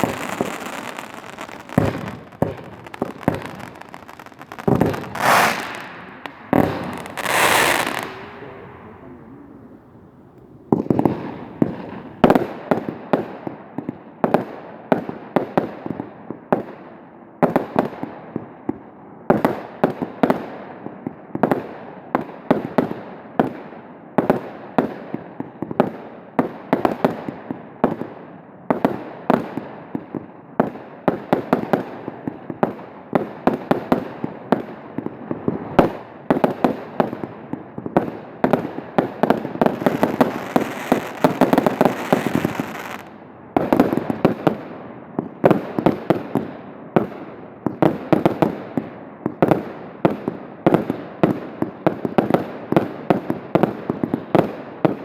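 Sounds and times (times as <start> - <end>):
fireworks bangs and crackling: 0.0 - 16.8, 25.7 - 55.0.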